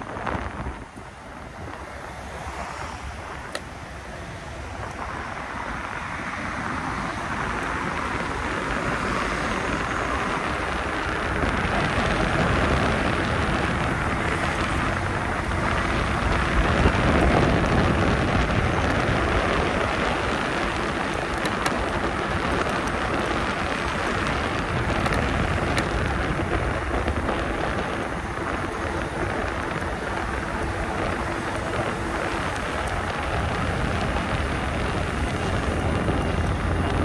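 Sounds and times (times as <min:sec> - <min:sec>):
bike tire noise: 0:00.0 - 0:37.0
wind rush: 0:00.0 - 0:37.0.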